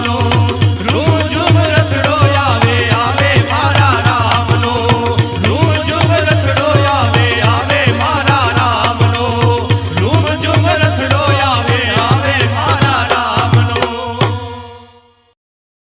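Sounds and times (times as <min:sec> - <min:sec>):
drum strokes: 0:00.0 - 0:14.4
rattling percussion: 0:00.0 - 0:14.8.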